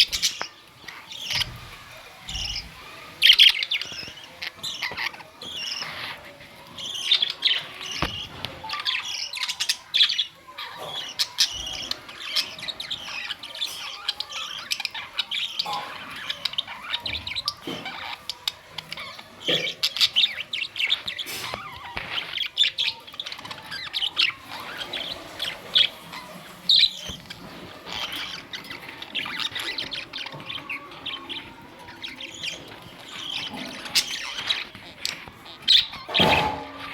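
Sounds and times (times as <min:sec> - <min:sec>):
budgerigars chirping and warbling: 0:00.0 - 0:36.9.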